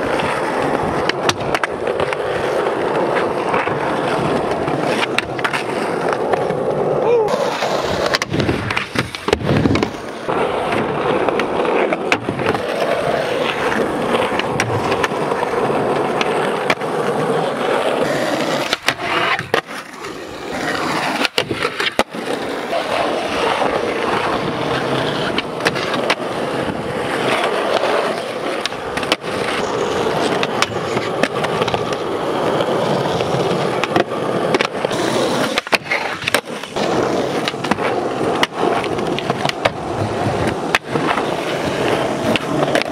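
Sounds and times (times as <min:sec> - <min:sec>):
skateboard wheels rolling: 0:00.0 - 0:42.9
skateboards clacking: 0:00.0 - 0:42.9.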